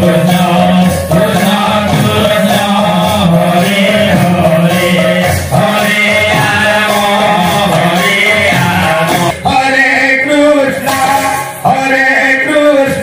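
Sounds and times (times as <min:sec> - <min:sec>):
rhythmic percussion: 0:00.0 - 0:13.0.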